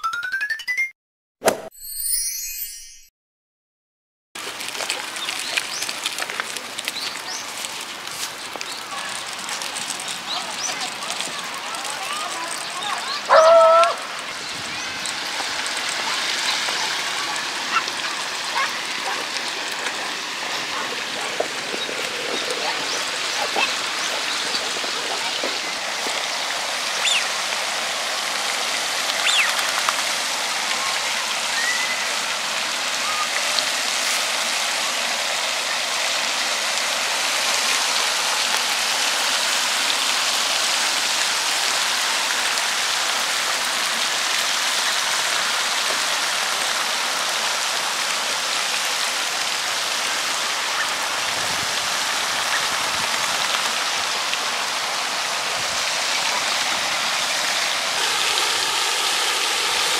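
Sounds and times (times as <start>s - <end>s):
fountain water splashing: 4.4s - 59.9s.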